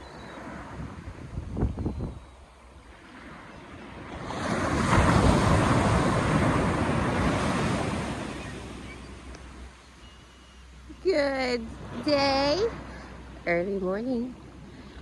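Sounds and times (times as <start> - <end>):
ocean wave breaking on shore: 0.0 - 1.6, 2.5 - 15.0.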